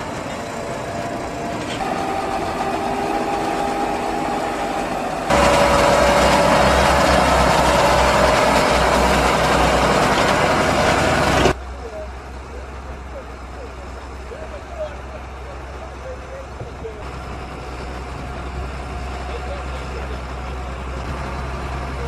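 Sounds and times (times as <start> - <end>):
tractor diesel engines under load: 0.0 - 22.0.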